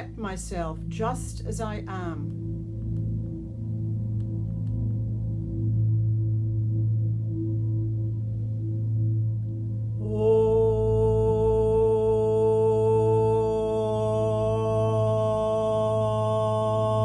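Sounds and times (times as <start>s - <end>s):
low steady drone: 0.0s - 17.0s.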